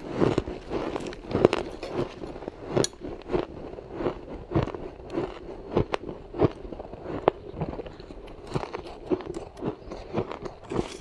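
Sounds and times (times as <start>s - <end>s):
chewing crushed ice: 0.0s - 11.0s.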